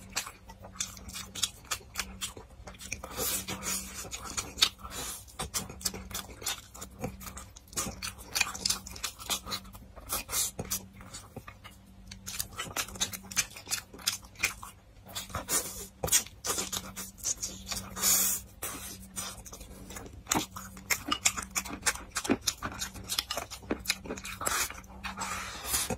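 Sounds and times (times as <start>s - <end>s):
chewing and lip smacks: 0.0s - 25.9s
faint steady hum: 0.0s - 25.9s.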